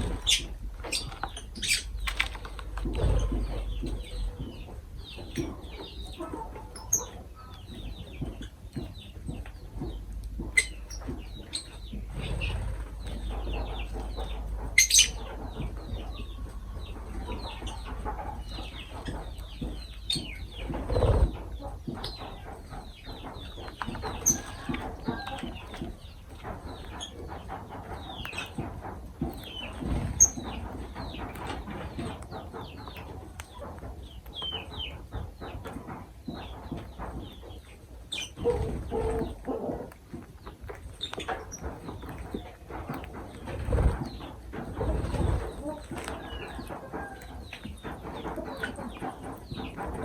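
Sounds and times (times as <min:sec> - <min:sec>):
lovebirds chirping: 0:00.0 - 0:50.0.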